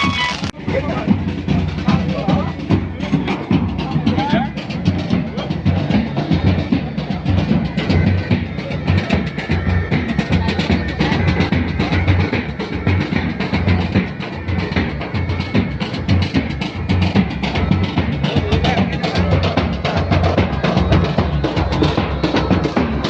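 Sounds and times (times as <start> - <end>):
music with heavy drumming and bass: 0.0 - 23.0.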